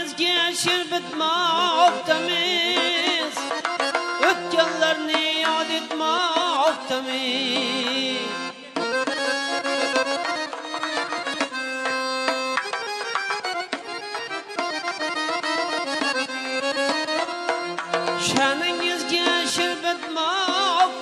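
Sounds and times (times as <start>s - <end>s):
folk dance music melody: 0.0s - 21.0s.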